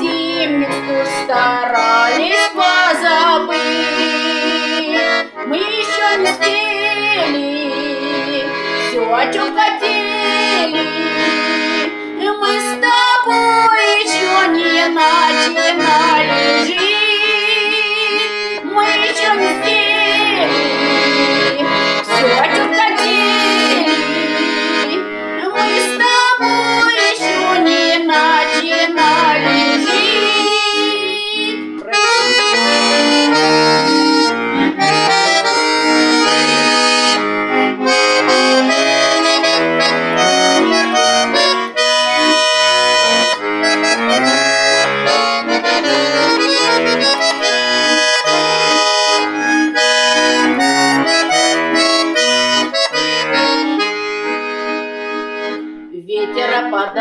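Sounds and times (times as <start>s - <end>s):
accordion music: 0.0s - 57.0s.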